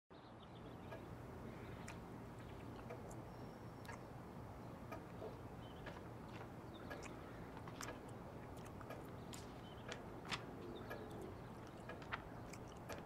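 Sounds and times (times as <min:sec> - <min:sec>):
faint regular ticking: 0:00.6 - 0:13.0.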